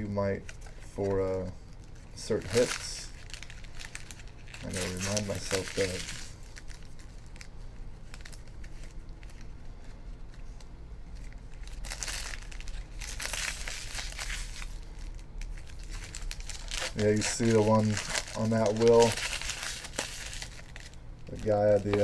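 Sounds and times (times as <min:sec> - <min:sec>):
plastic wrapping crinkling and tearing: 0:00.0 - 0:22.0.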